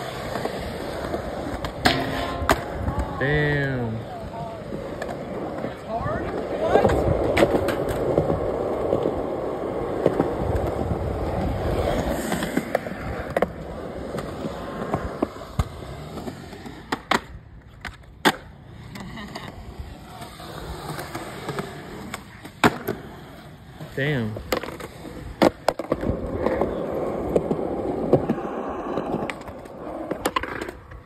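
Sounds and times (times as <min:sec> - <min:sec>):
skateboard clacking on ground: 0:00.0 - 0:31.0
skateboard wheels rolling on concrete: 0:00.0 - 0:31.0.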